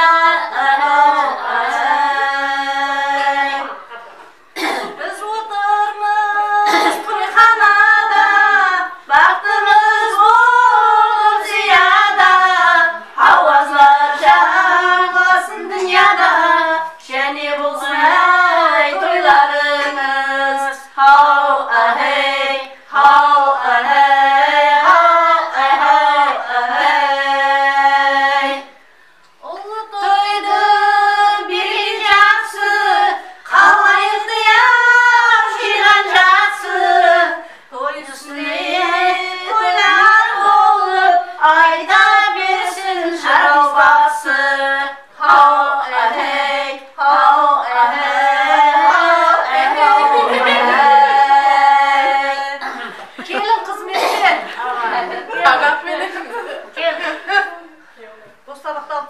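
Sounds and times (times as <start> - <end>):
women singing unaccompanied: 0.0 - 59.0.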